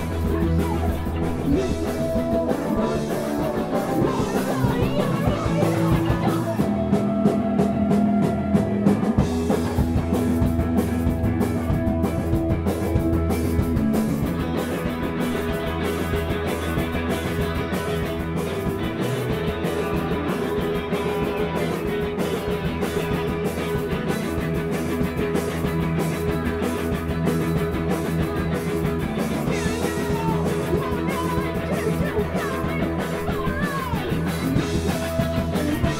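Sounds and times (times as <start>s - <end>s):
drum kit playing: 0.0s - 35.9s
electric guitars through amplifiers: 0.0s - 35.9s.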